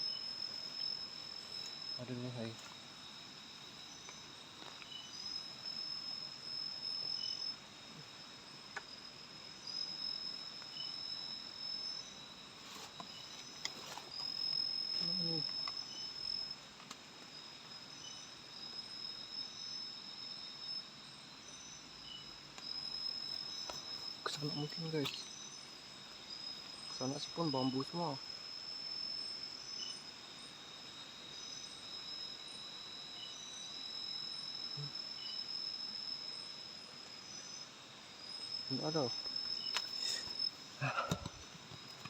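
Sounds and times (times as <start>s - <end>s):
crickets and insects trilling: 0.0s - 42.0s
short insect chirps: 0.0s - 42.0s.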